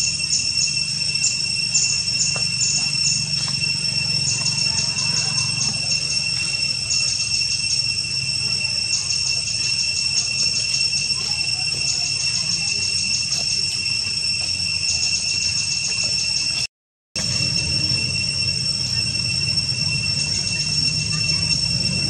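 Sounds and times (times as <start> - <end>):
insects droning: 0.0 - 16.6, 17.2 - 22.0
insects ticking chirps: 0.0 - 16.6, 17.2 - 22.0.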